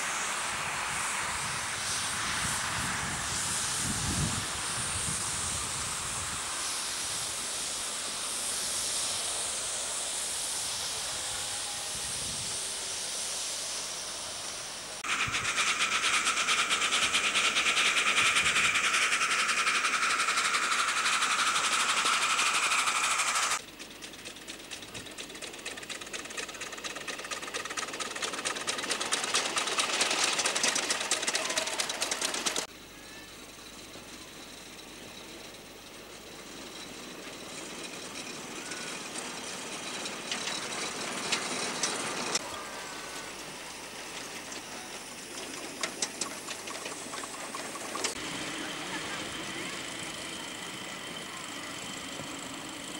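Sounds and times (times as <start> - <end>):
fast beating locomotive exhaust: 0.0 - 32.7, 33.6 - 52.9
quiet locomotive running: 0.0 - 52.9
steam hissing: 0.0 - 52.9.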